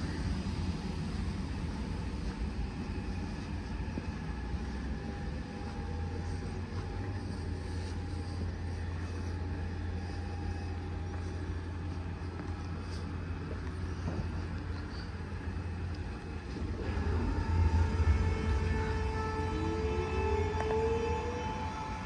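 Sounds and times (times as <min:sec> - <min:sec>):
faint steady whine: 0:00.0 - 0:22.0
tram rumble and hum: 0:00.0 - 0:22.0.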